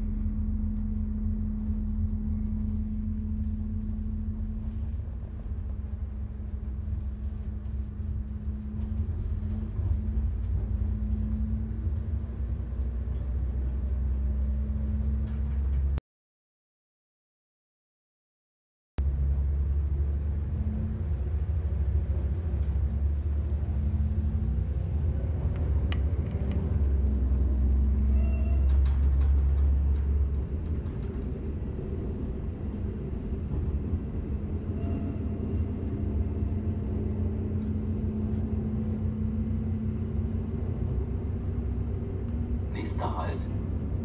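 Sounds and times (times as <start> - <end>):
railcar engine and wheels rumbling: 0.0 - 16.0, 19.0 - 44.0.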